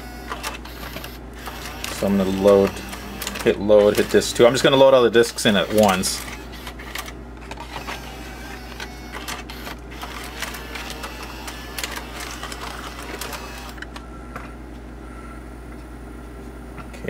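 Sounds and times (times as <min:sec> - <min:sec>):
cd changer motors and clicking gears: 0:00.0 - 0:14.0.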